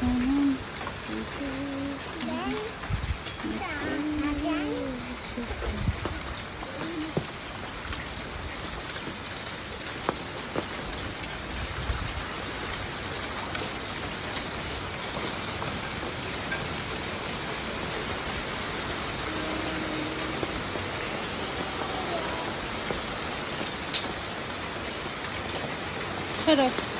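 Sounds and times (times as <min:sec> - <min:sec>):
rain and hail falling: 0:00.0 - 0:26.9
sharp hail ticks: 0:00.0 - 0:26.9.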